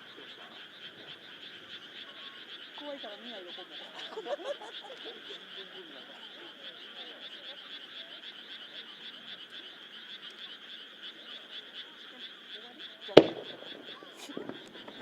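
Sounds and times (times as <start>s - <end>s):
faint voices: 0.0s - 15.0s
frogs calling in chorus: 0.0s - 15.0s.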